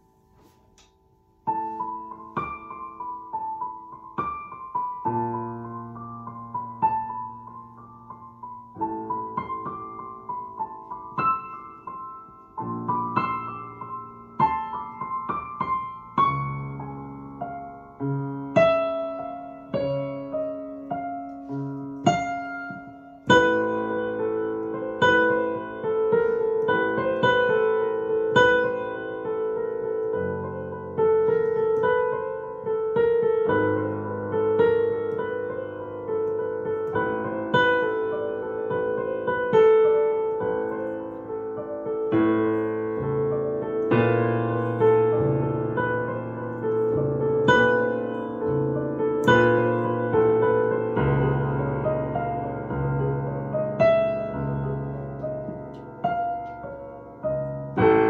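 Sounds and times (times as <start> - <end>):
electronic keyboard piano melody: 0.0 - 58.0.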